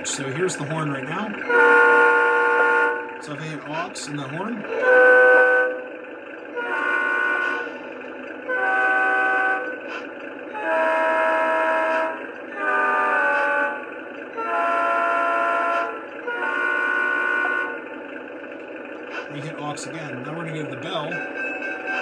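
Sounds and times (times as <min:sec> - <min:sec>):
electronic train horn blasts: 0:00.0 - 0:18.4
model engine idle sound: 0:00.0 - 0:22.0.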